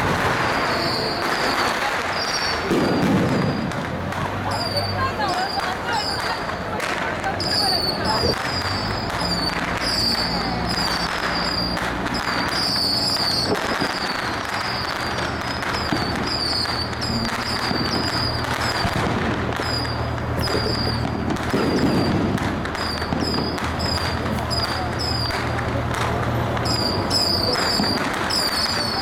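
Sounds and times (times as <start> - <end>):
firecrackers crackling: 0.0 - 29.0
boat engines droning: 2.6 - 29.0.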